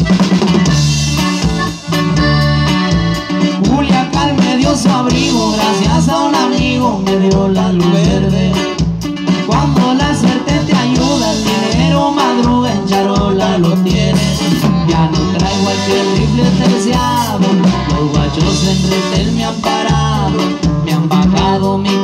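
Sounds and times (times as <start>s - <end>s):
live band playing dance music: 0.0s - 22.0s.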